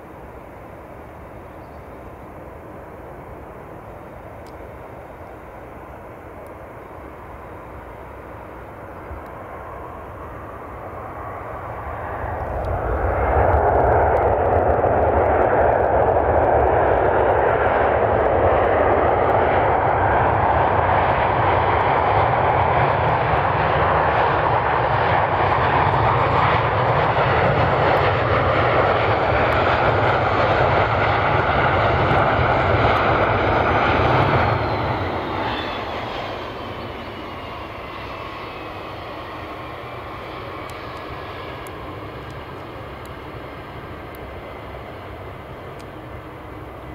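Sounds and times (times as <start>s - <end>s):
jet engine rush: 0.0s - 46.9s.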